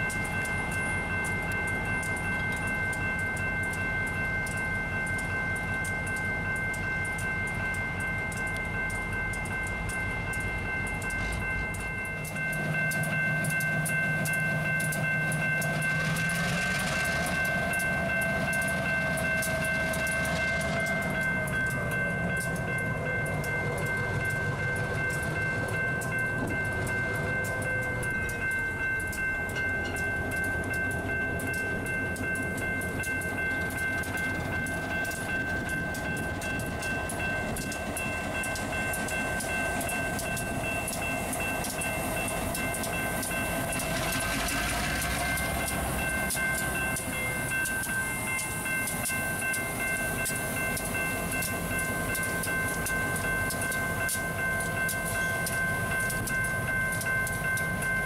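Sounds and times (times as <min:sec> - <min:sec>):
crossing bell ringing: 0:00.0 - 0:58.0
diesel locomotive running: 0:00.0 - 0:58.0.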